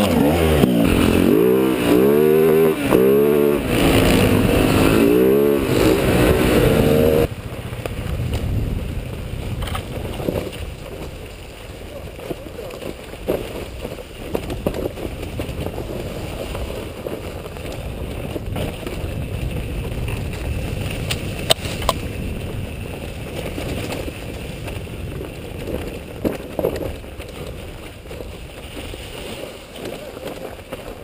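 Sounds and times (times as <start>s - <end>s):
dirt bike engine rumbling: 0.0s - 31.0s
knocks and rattles from bike: 0.0s - 31.0s.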